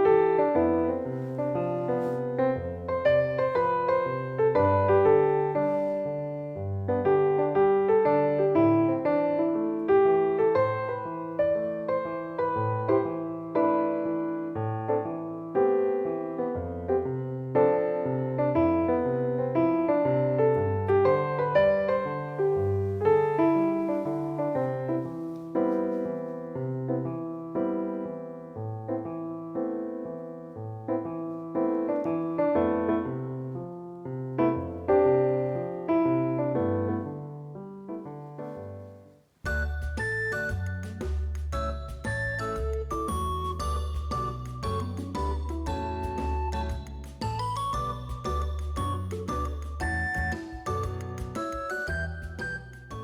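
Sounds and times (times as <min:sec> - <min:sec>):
piano music: 0:00.0 - 0:53.0.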